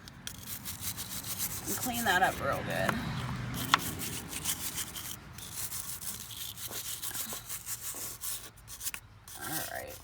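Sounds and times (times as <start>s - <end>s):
wire brush scrubbing metal: 0.2s - 2.9s, 3.5s - 10.0s.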